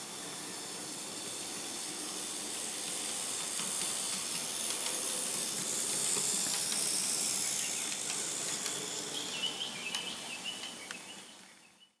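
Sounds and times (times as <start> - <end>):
model train rolling on track: 0.0 - 11.8.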